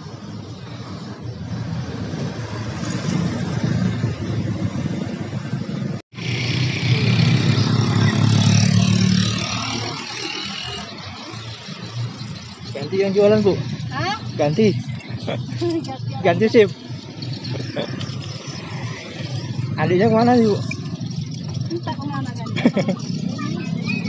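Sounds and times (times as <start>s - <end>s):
highway traffic passing: 0.0s - 24.0s
close vehicle pass: 1.4s - 24.0s.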